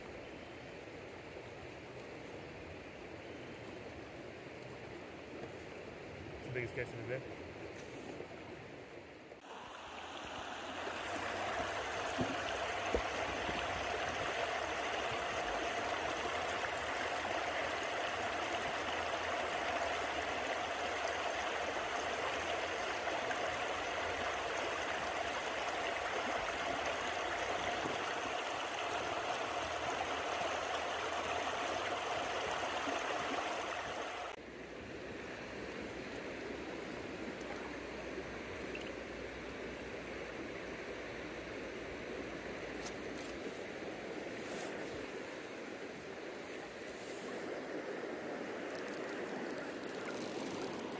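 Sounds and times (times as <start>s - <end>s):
stream rushing over rocks: 9.4s - 50.9s.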